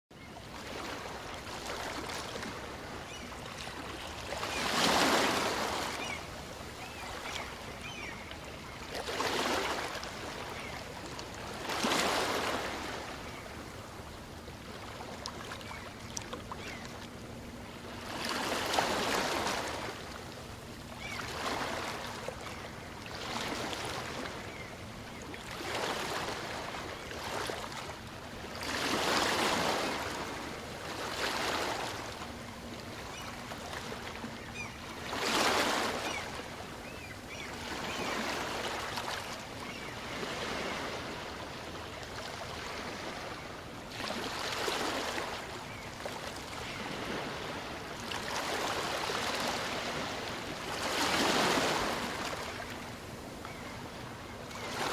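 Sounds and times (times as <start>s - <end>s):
small waves washing up beach: 0.5s - 16.8s, 25.4s - 53.6s.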